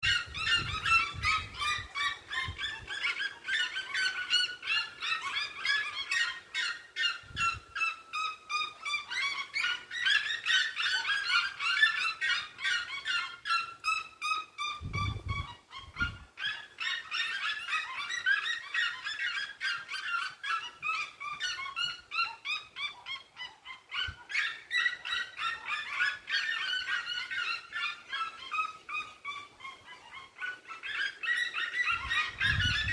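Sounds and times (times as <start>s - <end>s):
birds yelping calls: 0.0s - 32.9s.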